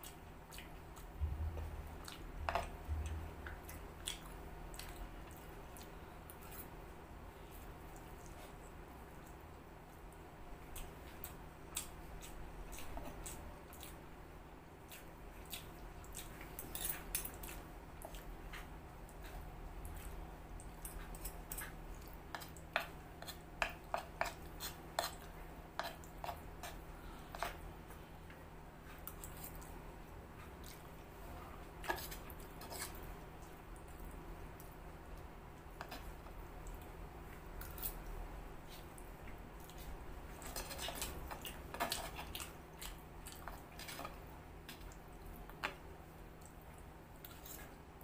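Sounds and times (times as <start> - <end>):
steady low hum: 0.0 - 48.0
wet chewing of noodles: 0.0 - 48.0.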